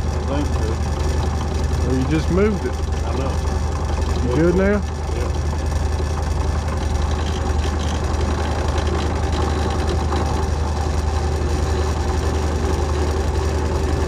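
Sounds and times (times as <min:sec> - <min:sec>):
drill press motor humming: 0:00.0 - 0:14.0.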